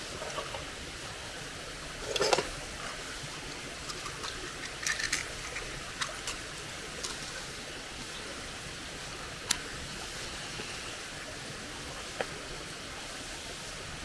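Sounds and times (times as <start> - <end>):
small stream babbling: 0.0 - 14.0.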